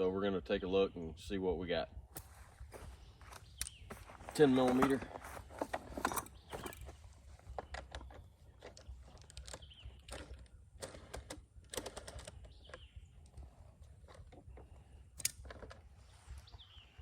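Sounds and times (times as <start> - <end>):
parts being handled: 2.2 - 16.7.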